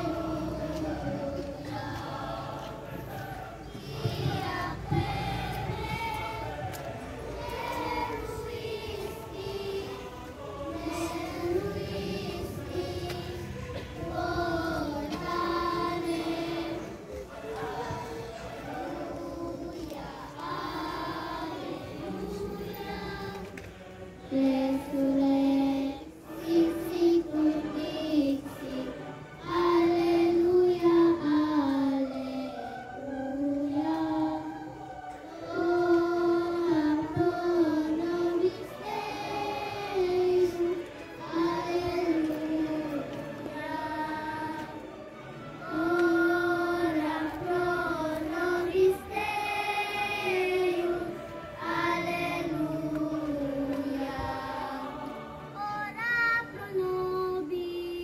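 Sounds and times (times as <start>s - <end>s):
children's choir singing a hymn: 0.0s - 58.0s.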